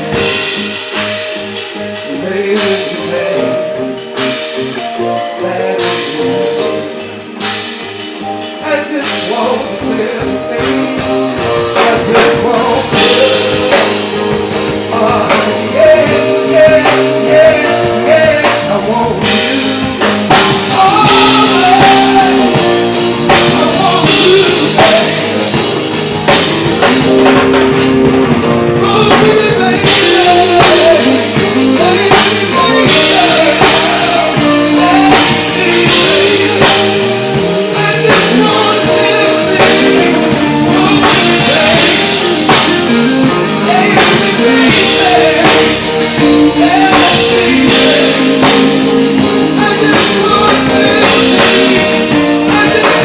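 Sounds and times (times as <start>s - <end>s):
drum kit beat: 0.0s - 53.0s
guitar: 0.0s - 53.0s.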